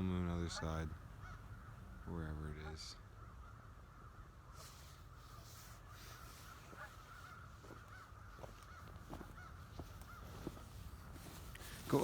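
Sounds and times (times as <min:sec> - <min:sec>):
distant crows cawing: 0:00.4 - 0:05.2, 0:05.8 - 0:12.0.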